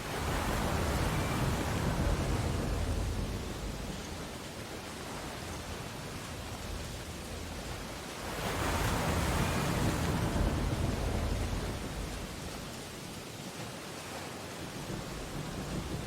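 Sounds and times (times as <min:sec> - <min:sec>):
ocean waves on a shore: 0:00.0 - 0:16.0.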